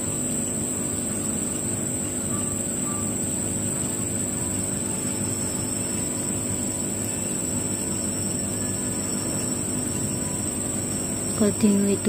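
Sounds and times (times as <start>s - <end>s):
high-pitched whine: 0.0s - 12.0s
machine engine drone: 0.0s - 12.0s.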